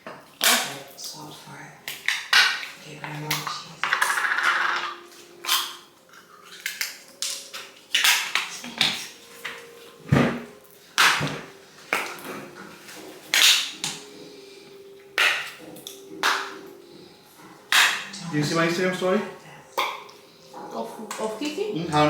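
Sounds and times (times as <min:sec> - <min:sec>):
plates and cutlery clinking: 0:01.8 - 0:22.0.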